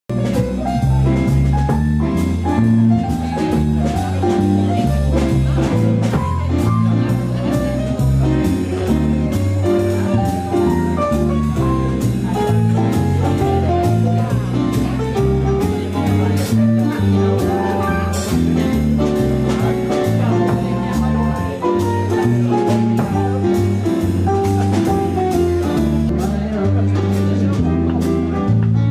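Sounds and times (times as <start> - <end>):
jazz band playing: 0.1 - 28.9
low bass notes: 0.1 - 28.9.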